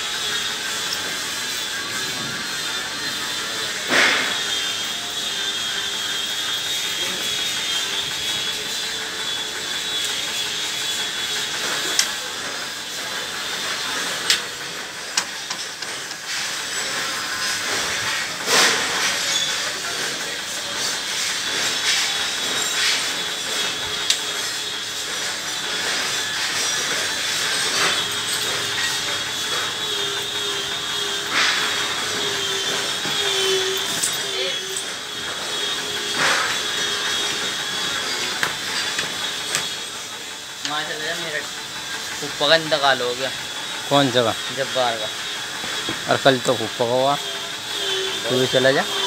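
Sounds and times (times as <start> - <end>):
machine hum with high whine: 0.0 - 49.0.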